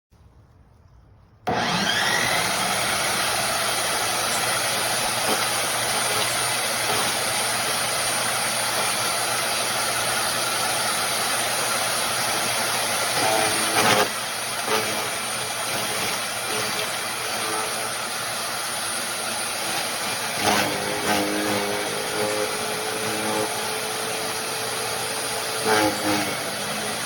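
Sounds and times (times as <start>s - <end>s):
wood chipper motor running: 1.5s - 27.0s.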